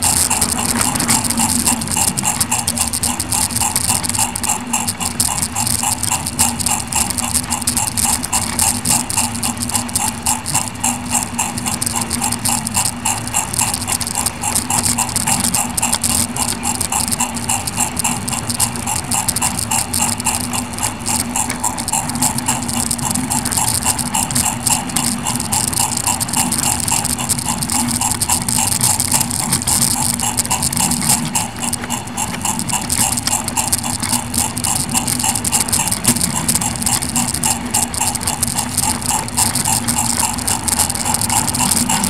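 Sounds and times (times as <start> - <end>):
model train motor hum: 0.0 - 42.0
ticking of running wheels: 0.0 - 42.0.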